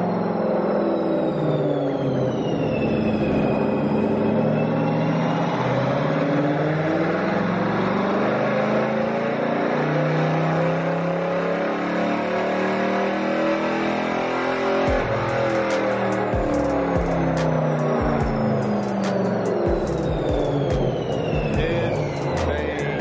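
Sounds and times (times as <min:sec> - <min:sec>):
car engine revving on a dyno: 0:00.0 - 0:23.0
high supercharger whine: 0:00.0 - 0:23.0.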